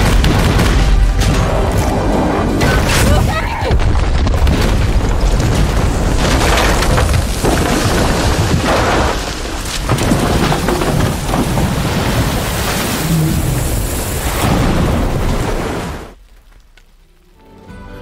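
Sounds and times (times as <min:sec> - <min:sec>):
deep rumble of tower collapsing: 0:00.0 - 0:16.4
crashing crackling debris: 0:00.0 - 0:17.6.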